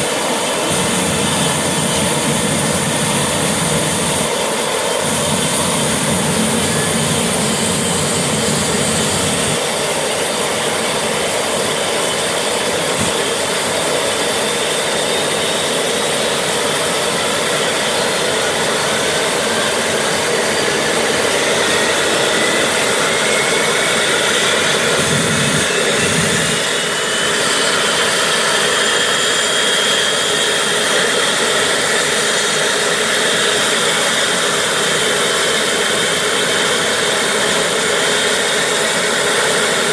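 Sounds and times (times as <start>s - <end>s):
jet engine rushing: 0.0s - 39.9s
jet engine whine spooling up: 0.0s - 39.9s.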